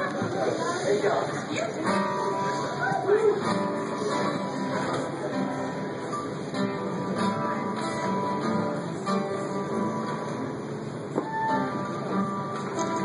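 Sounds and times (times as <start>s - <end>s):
strummed acoustic guitar: 0.0s - 13.0s
live folk-rock band: 1.7s - 13.0s.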